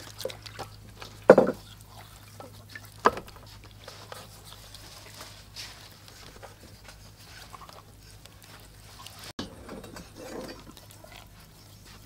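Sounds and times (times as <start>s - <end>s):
hands handling wet fish: 0.0s - 9.3s, 10.0s - 12.0s
low steady hum: 0.0s - 12.0s.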